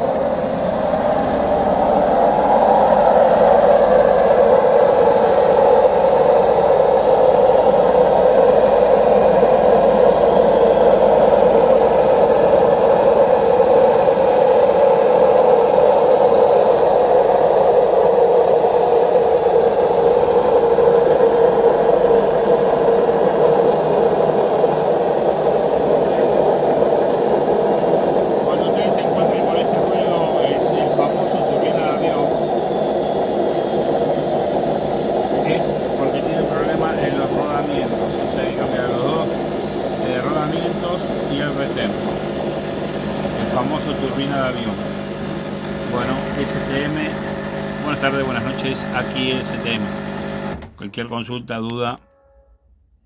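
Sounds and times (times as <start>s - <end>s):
washing machine spin cycle roar: 0.0s - 51.7s.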